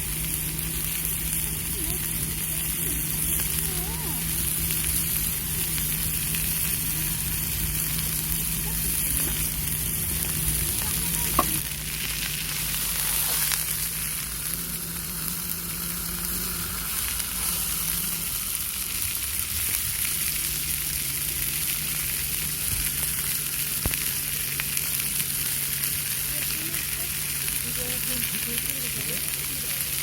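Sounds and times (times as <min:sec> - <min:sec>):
low hum: 0:00.0 - 0:29.9
food sizzling in a pan: 0:00.0 - 0:30.0.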